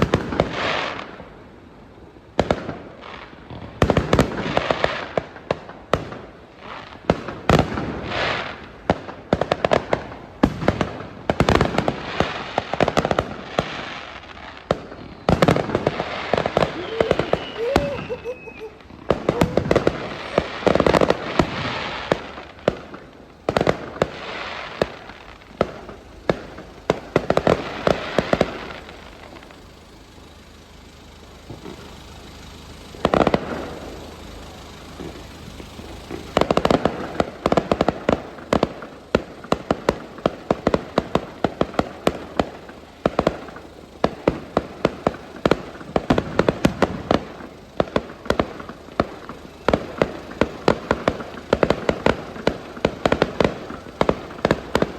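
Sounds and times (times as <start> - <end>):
firework bangs: 0.0 - 1.6, 2.3 - 54.9
firework crackling: 0.0 - 54.9.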